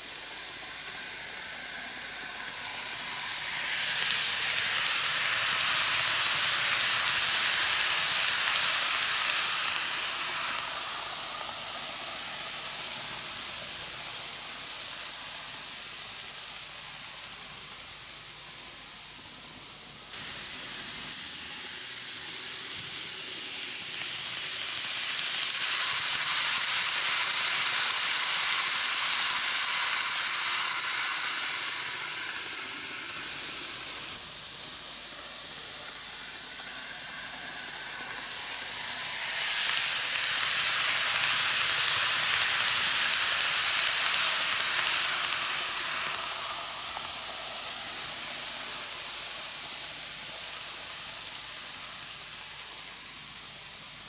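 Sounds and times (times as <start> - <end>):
model train wheels hissing: 0.0 - 54.0.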